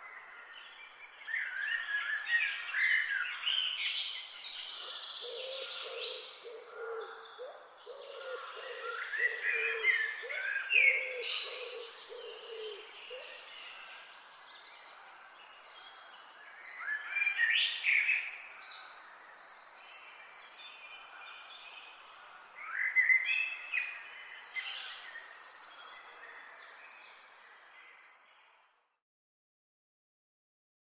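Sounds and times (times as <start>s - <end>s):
songbirds singing: 0.0s - 29.0s.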